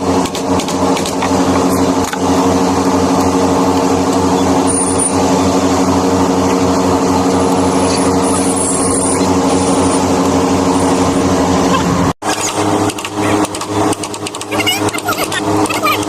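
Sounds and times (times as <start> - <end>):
motor running with low throb: 0.0 - 16.0.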